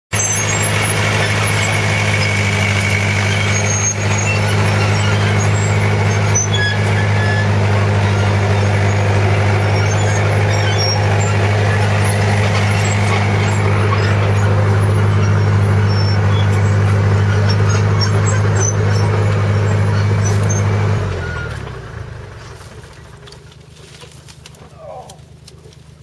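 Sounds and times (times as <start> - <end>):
vehicle engine idling: 0.1 - 26.0.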